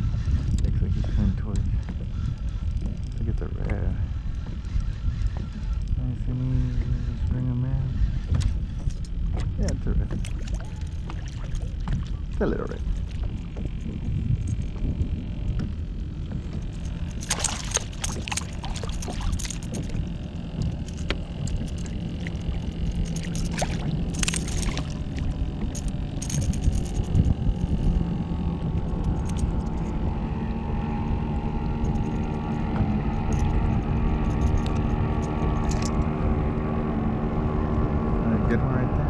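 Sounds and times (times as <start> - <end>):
faint low hum: 0.0 - 39.0
wind and water rumble: 0.0 - 39.0.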